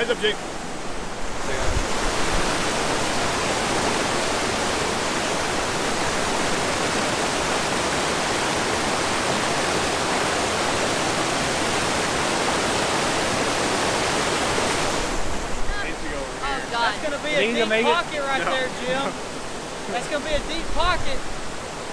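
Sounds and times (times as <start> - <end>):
waterfall rushing water: 0.0 - 21.9.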